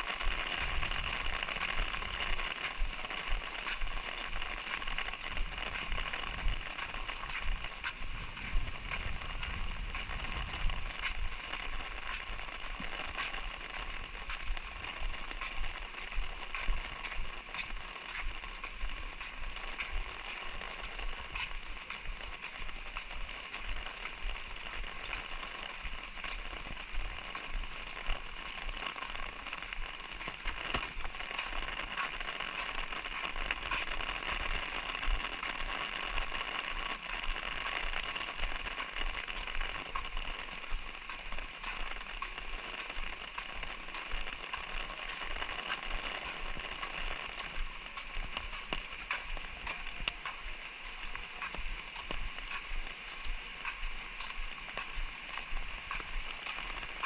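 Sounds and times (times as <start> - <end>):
raindrops ticking on surfaces: 0.0 - 57.0
steady hiss of rain: 0.0 - 57.0.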